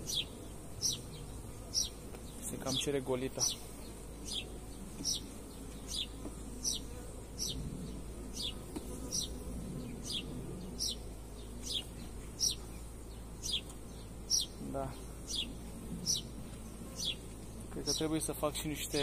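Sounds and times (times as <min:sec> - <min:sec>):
honeybees humming: 0:00.0 - 0:19.0.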